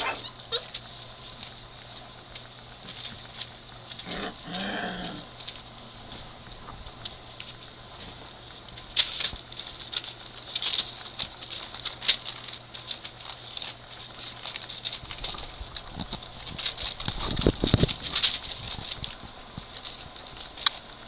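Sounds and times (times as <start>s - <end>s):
puppy paws pattering on bedding: 0.0s - 21.0s.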